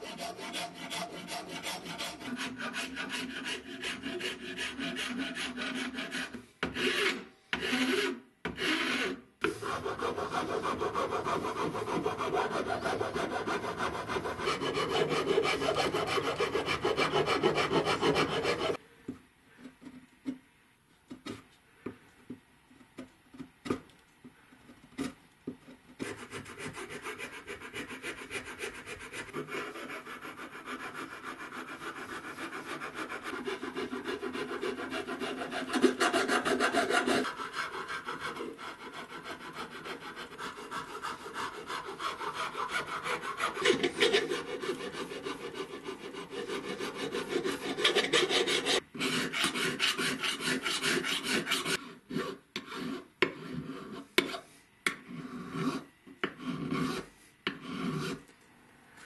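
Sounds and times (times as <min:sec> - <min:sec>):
metal file rasping on wood: 0:00.0 - 0:18.8, 0:26.0 - 0:54.4, 0:55.0 - 0:58.2.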